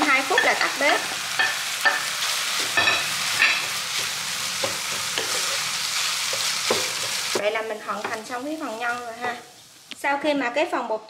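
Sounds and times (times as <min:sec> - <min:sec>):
food sizzling in frying pan: 0:00.0 - 0:10.6
spatula scraping pan: 0:00.3 - 0:09.6.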